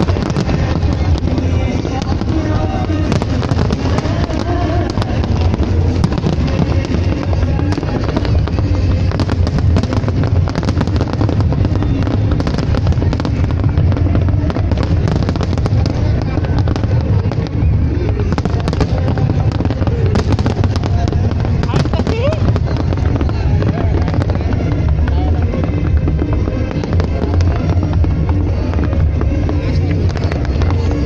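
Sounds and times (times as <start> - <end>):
fireworks crackling and popping: 0.0 - 31.0
music: 0.0 - 31.0
voices: 0.0 - 31.0.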